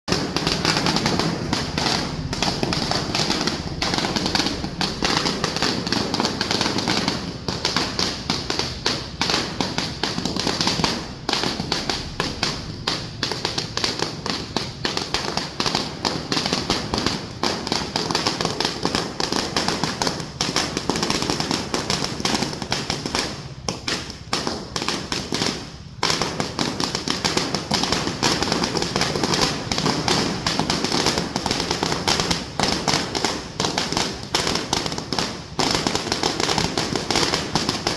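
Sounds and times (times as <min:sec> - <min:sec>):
firecrackers crackling: 0:00.1 - 0:37.9.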